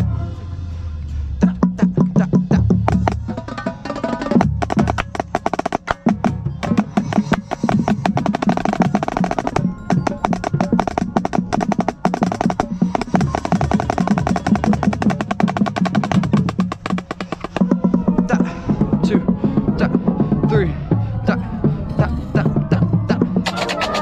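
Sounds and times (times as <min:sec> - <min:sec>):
lower drums of drumline: 0:01.4 - 0:24.0
marching snare drum rolls: 0:01.8 - 0:21.4, 0:22.4 - 0:24.0.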